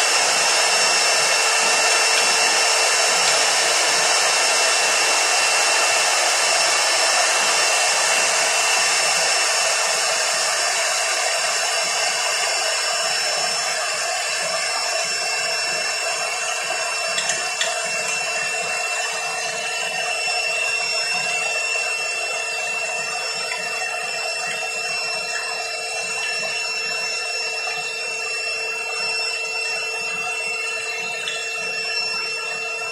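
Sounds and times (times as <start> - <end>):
shop vacuum running: 0.0 - 32.9.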